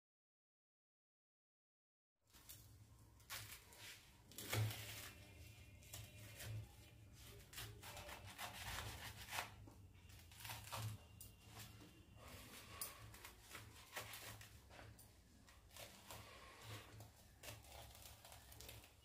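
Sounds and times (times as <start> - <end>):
knife scraping and crunching brittle: 2.3 - 19.0.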